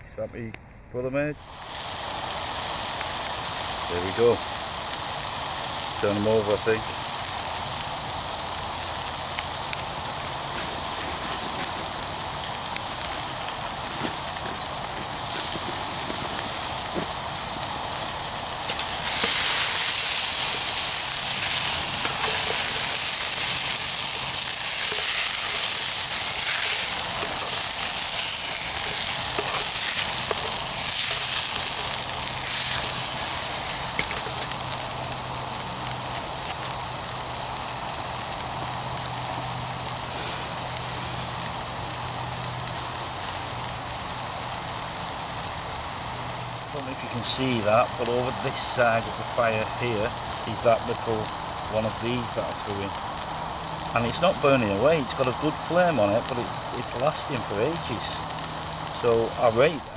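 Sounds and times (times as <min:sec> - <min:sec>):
burgers sizzling on a grill: 0:01.2 - 0:59.9.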